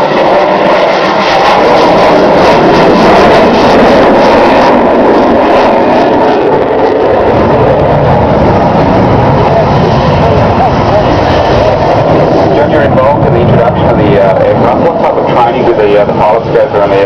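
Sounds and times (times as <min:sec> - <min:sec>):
jet flying past: 0:00.0 - 0:17.0.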